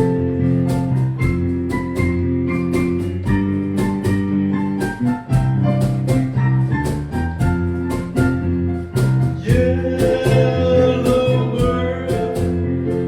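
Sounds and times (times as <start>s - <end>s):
instrumental music with guitar: 0.0s - 13.0s.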